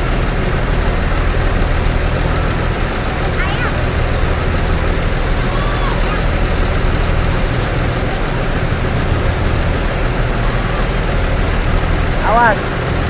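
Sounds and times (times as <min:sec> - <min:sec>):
diesel bus engine idling: 0:00.0 - 0:13.0
faint voices: 0:00.0 - 0:13.0.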